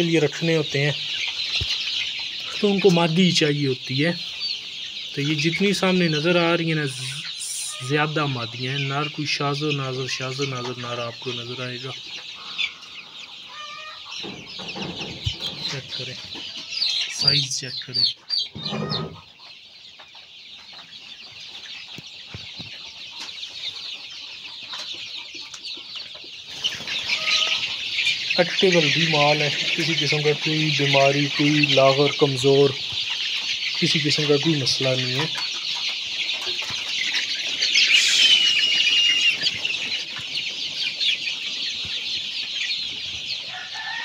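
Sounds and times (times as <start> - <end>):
chicks peeping: 0.0 - 44.0.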